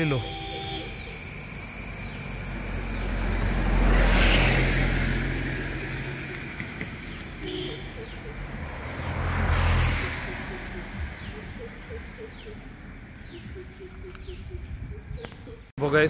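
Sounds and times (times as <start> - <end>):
car engine and tyre noise: 0.0 - 15.7
vehicle passing whoosh: 1.9 - 15.2.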